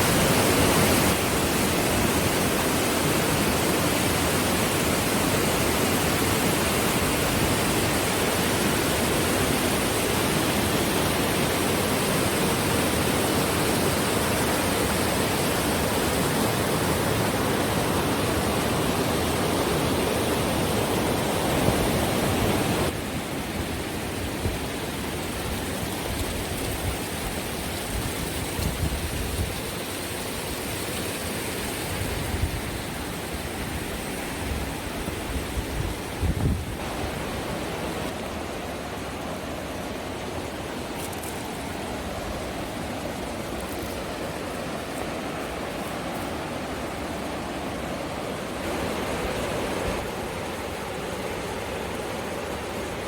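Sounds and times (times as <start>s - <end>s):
river rapids rushing: 0.0s - 28.4s, 29.1s - 53.0s.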